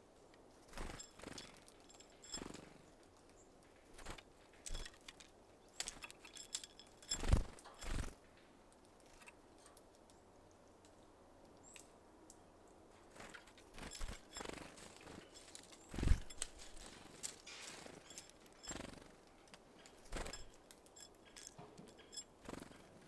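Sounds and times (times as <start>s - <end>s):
birds pecking and tapping: 0.4s - 12.4s, 13.1s - 23.0s.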